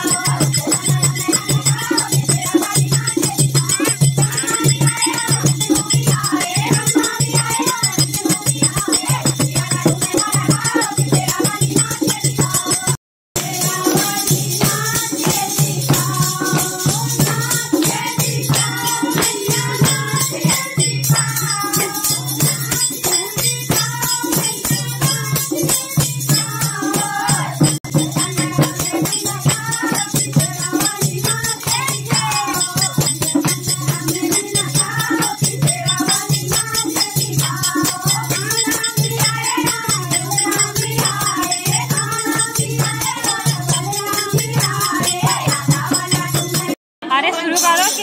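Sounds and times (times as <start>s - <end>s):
jingling hand percussion: 0.0s - 48.0s
women singing devotional song: 0.0s - 48.0s.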